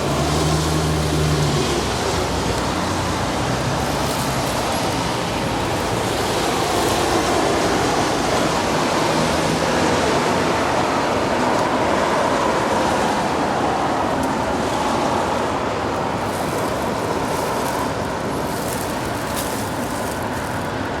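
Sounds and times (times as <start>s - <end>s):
heavy rain: 0.0s - 21.0s
road traffic: 0.0s - 21.0s.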